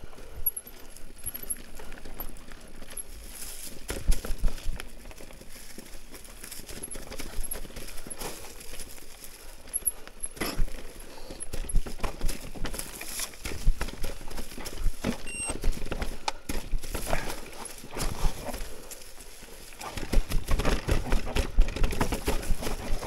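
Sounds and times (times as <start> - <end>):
tyres crunching dry leaves: 0.0 - 23.0
bike rattling and knocking: 0.2 - 19.0, 19.8 - 23.0.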